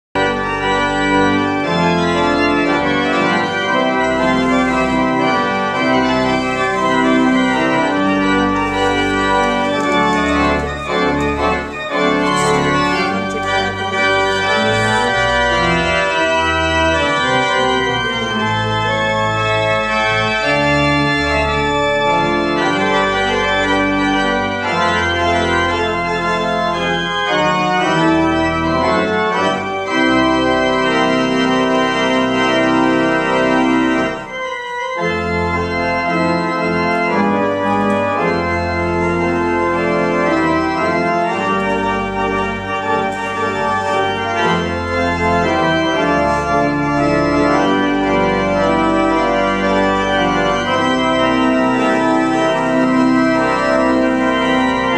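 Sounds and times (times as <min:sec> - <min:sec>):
church organ playing chords: 0:00.2 - 0:54.9.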